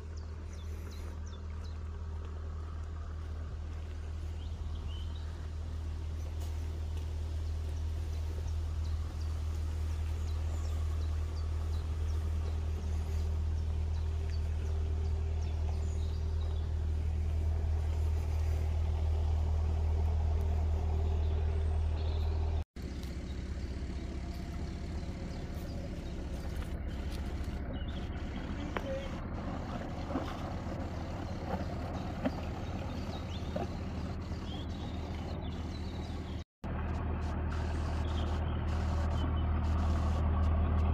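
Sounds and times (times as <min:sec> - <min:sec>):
boat engine humming: 0:00.0 - 0:40.9.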